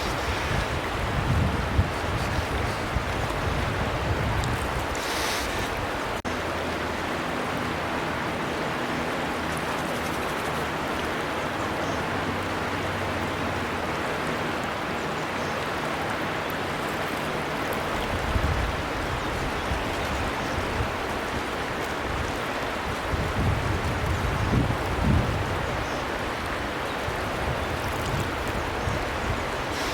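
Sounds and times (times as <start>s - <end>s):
river water rushing and splashing: 0.0s - 29.9s.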